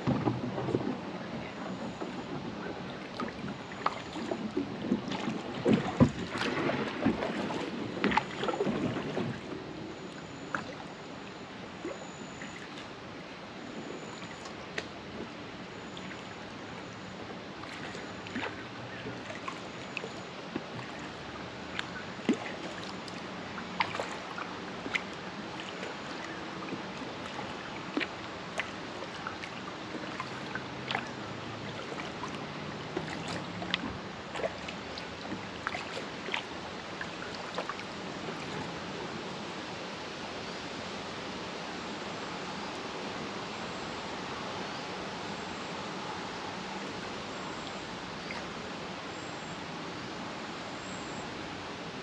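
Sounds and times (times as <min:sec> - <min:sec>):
paddle splashes and drips: 0:00.0 - 0:52.0
steady wash of water: 0:00.0 - 0:52.0.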